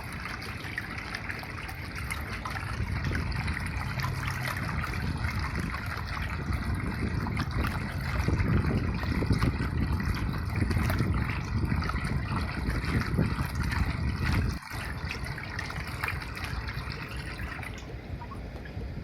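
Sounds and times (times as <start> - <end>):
water trickling: 0.0 - 19.0
low rumble: 1.5 - 19.0.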